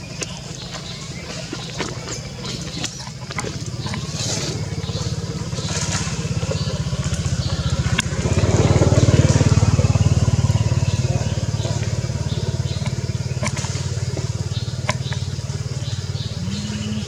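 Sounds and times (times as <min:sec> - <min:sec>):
small engine pulsing: 0:00.0 - 0:17.0.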